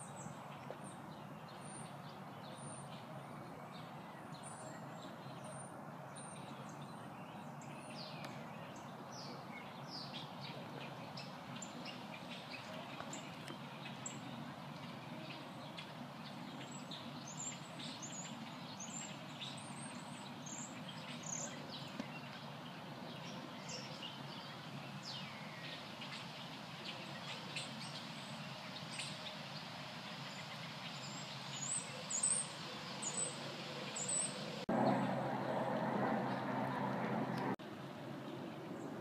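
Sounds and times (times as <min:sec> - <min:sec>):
small birds chirping: 0:00.0 - 0:37.6
outdoor background hum: 0:00.0 - 0:39.0.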